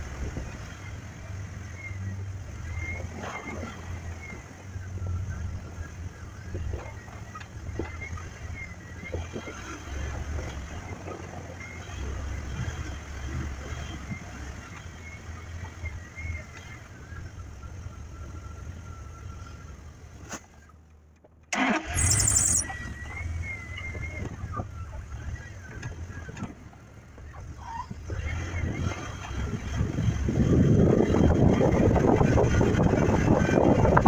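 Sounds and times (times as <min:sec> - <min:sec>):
truck jostling on dirt trail: 0:02.7 - 0:34.0
truck engine running: 0:03.9 - 0:34.0.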